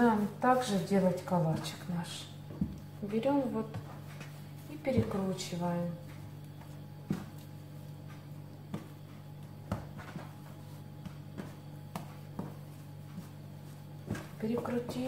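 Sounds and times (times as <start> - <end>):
hands kneading dough: 0.0 - 15.0
steady low hum: 0.0 - 15.0.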